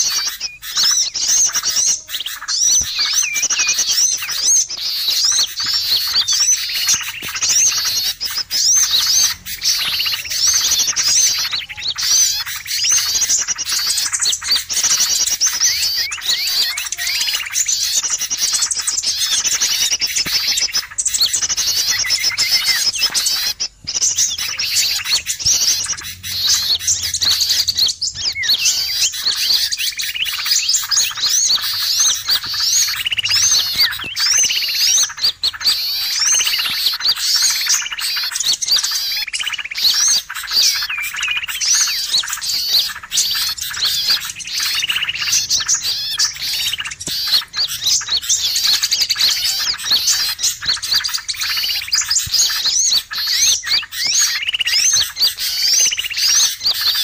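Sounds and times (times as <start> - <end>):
bulbul calls: 0.0 - 57.0
songbirds chirping and trilling: 0.0 - 57.0.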